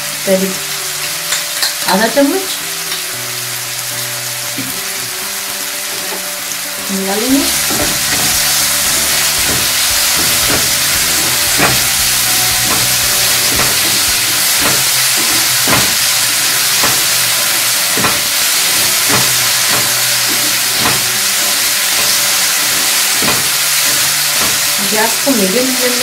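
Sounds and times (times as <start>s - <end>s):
masala sizzling in hot oil: 0.0s - 26.0s.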